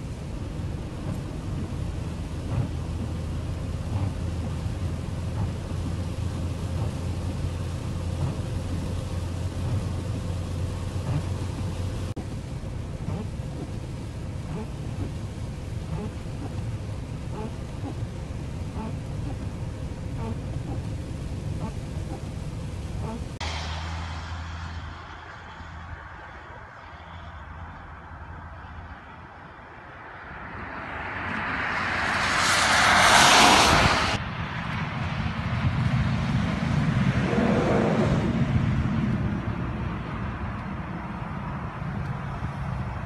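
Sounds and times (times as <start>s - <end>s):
car driving on wet road: 0.0s - 34.9s, 35.6s - 43.0s
lorry engine rumble: 0.0s - 43.0s.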